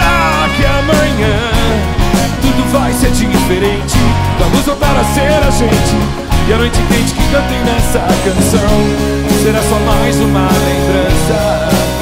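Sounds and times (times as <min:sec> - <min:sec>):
live rock and roll band: 0:00.0 - 0:12.0
man singing: 0:00.0 - 0:12.0.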